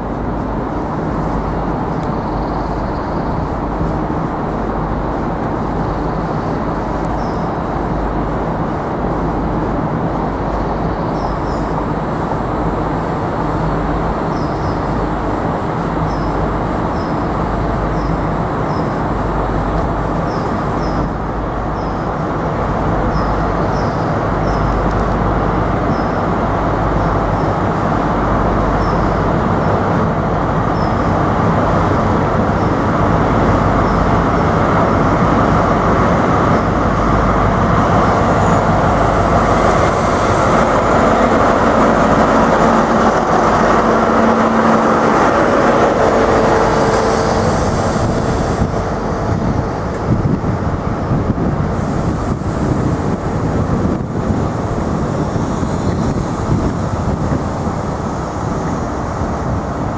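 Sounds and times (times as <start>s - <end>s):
diesel train engine drone: 0.0s - 59.9s
wheels rushing on rails: 0.0s - 59.9s.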